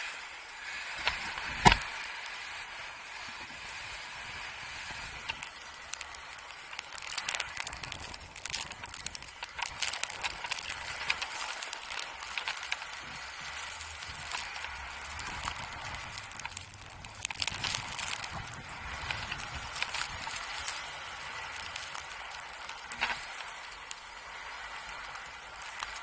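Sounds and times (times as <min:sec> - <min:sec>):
ski edges scraping on snow: 0:00.0 - 0:26.0.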